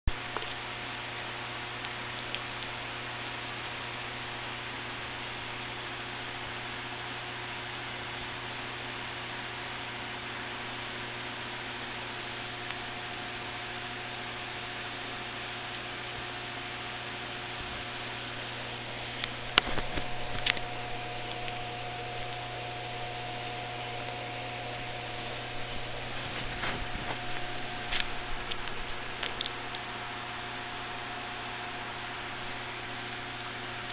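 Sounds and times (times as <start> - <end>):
constant hiss: 0.1 - 33.9
electrical hum: 0.1 - 33.9.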